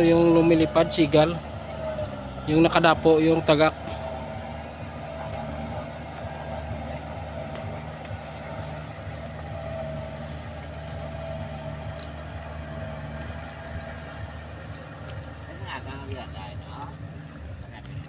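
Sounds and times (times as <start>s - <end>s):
boat diesel engine drone: 0.0s - 18.0s.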